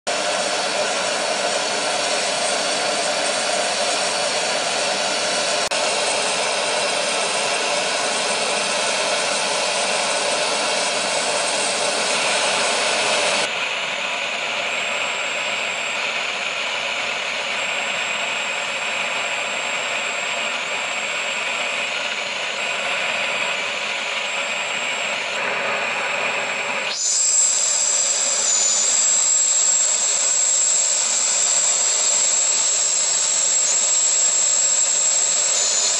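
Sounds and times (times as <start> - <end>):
high steady turbine whine: 0.1 - 35.9
jet turbine rush and whine: 0.1 - 35.9.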